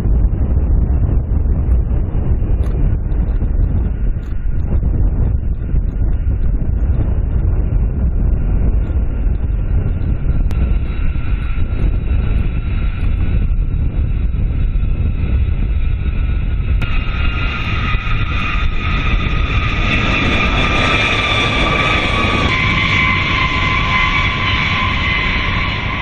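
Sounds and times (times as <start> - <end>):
high engine whine: 0.0 - 26.0
jet engines rumbling: 0.0 - 26.0.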